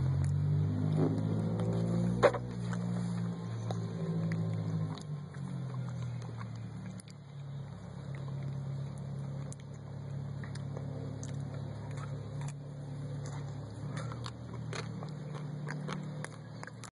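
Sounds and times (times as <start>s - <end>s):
low motor hum: 0.0s - 16.9s.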